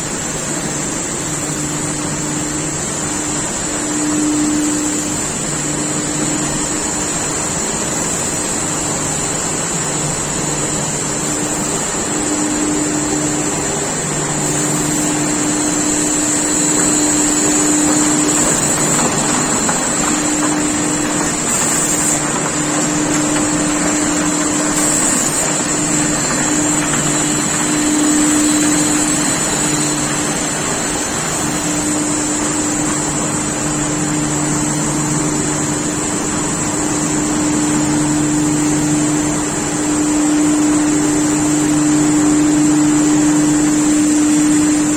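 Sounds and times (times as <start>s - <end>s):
machine humming: 0.0s - 44.9s.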